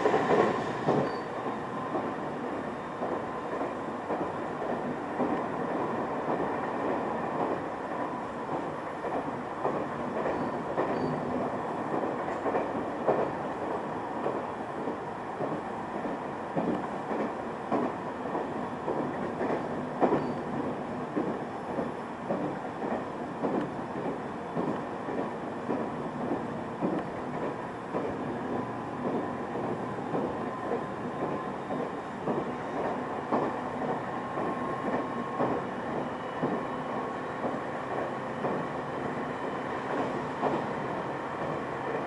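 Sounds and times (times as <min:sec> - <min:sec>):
train wheels rumbling: 0:00.0 - 0:42.0.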